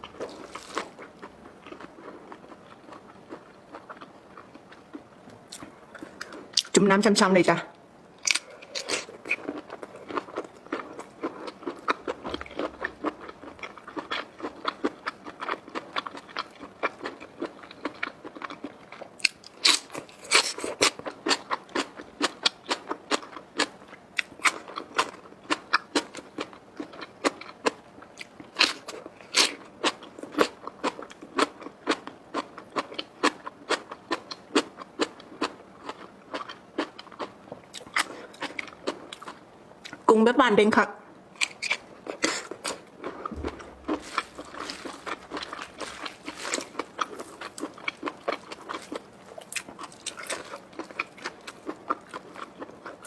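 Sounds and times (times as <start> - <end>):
person chewing crunchy food: 0.0 - 6.7, 8.2 - 40.0, 41.4 - 53.0.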